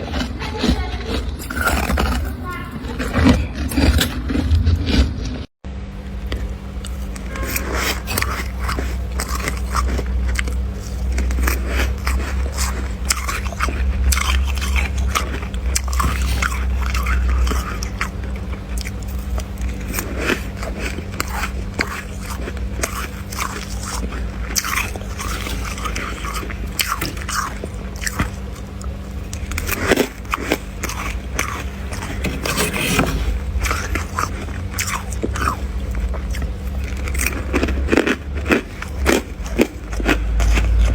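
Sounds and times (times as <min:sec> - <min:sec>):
frost being chewed crunching: 0:00.0 - 0:40.9
steady low hum: 0:00.0 - 0:40.9.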